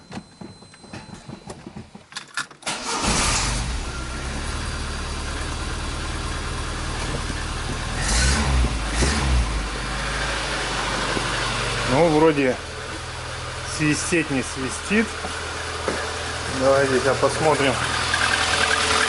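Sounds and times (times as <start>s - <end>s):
car engine starting and idling: 2.6s - 19.0s.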